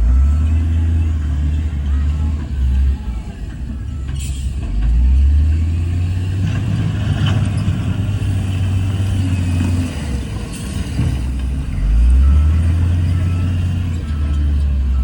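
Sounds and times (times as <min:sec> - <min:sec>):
heavy diesel machinery droning: 0:00.0 - 0:15.0.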